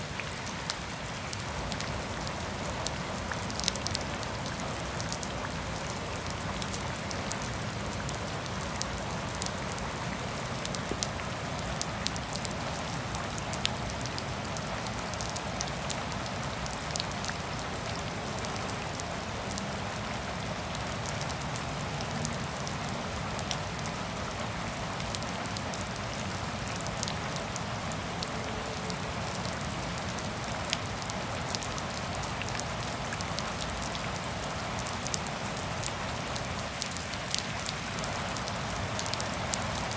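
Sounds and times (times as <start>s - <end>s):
rain falling on grass and pavement: 0.0s - 39.9s.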